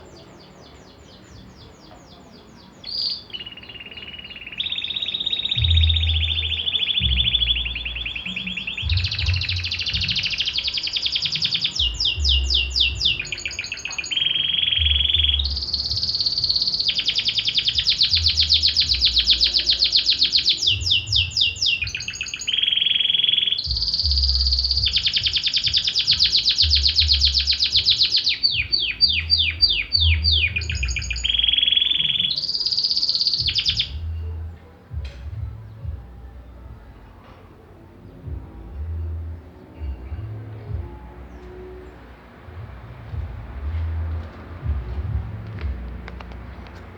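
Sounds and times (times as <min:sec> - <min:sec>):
canary singing trills: 0:00.0 - 0:45.2.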